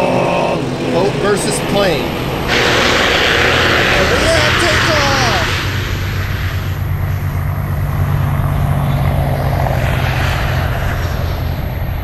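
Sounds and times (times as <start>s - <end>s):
airliner engine drone: 0.0s - 12.0s
rushing noise: 0.0s - 12.0s.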